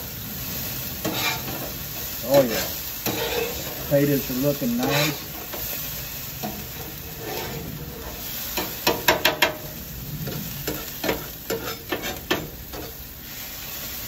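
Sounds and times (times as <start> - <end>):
food sizzling on a griddle: 0.0 - 14.0
metal spatula scraping and clacking: 1.0 - 13.0.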